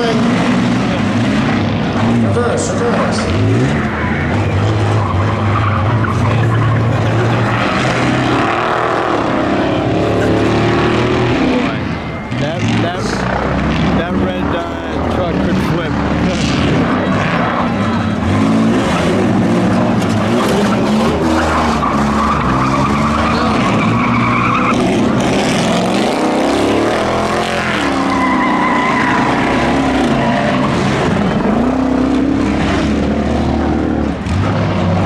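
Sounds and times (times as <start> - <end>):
race car engines revving: 0.0 - 35.0
tires squealing: 0.0 - 35.0.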